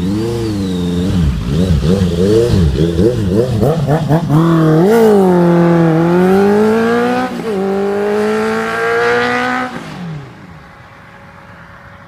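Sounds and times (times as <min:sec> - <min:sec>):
motorcycle engine accelerating: 0:00.0 - 0:10.5.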